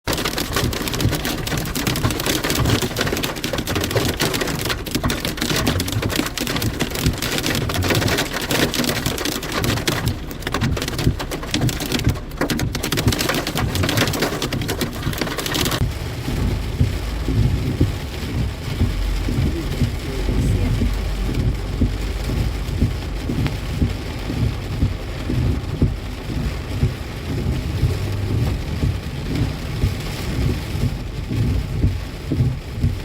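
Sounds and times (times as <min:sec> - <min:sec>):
heavy rain and snow falling: 0:00.1 - 0:33.0.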